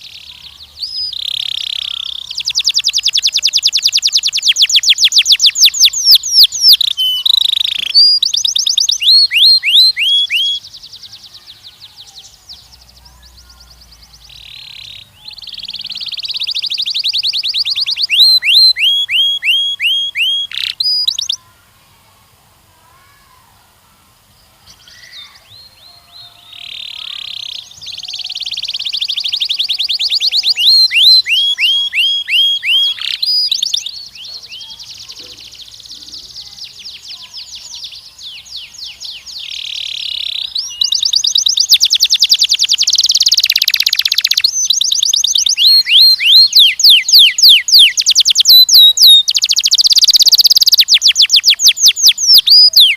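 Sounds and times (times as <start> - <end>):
canary singing trills: 0.0 - 21.5, 24.6 - 52.9.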